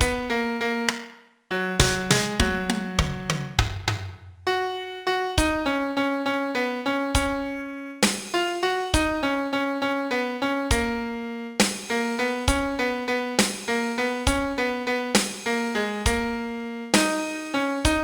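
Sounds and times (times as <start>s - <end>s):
slow piano melody: 0.0s - 3.6s, 4.5s - 18.0s.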